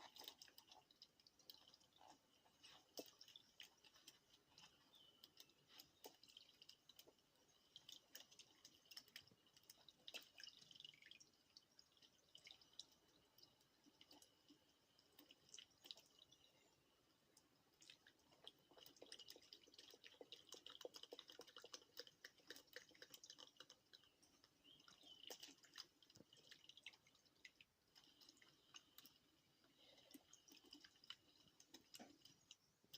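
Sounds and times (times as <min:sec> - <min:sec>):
faint small clicks and crackles: 0:00.0 - 0:32.9.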